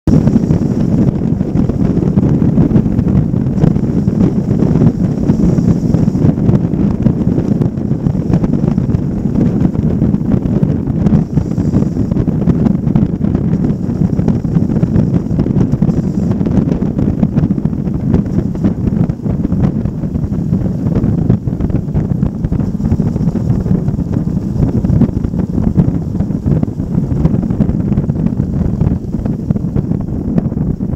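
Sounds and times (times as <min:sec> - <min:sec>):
wind buffeting microphone: 0:00.0 - 0:30.9
motorcycle engine and tyre rumble: 0:00.1 - 0:30.9.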